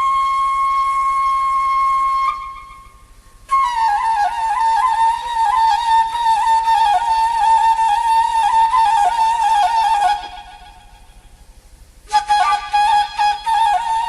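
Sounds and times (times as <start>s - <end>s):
flute melody: 0.0s - 11.4s, 12.0s - 14.0s.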